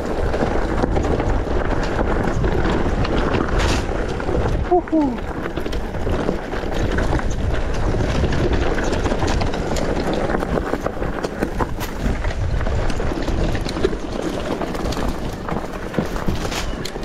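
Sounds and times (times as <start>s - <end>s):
bike rattling and knocking: 0.0s - 17.0s
bike tyres over rocks and gravel: 0.0s - 17.0s.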